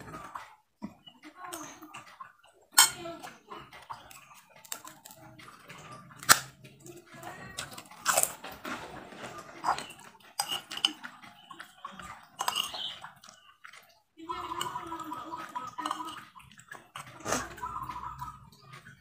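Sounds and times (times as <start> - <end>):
mouth chewing: 0.0 - 19.0.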